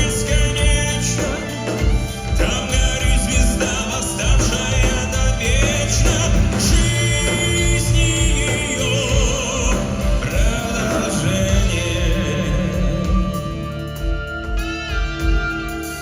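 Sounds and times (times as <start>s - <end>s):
man singing with vibrato: 0.0s - 15.0s
live band playing: 0.0s - 16.0s.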